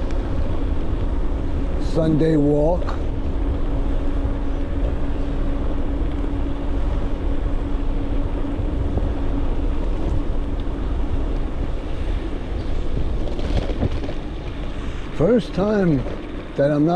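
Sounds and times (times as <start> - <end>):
electric motor hum: 0.0 - 16.9
wind rumbling on microphone: 0.0 - 16.9.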